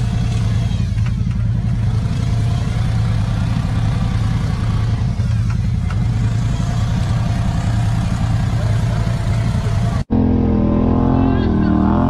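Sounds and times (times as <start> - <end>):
utility vehicle engine droning: 0.0 - 12.0.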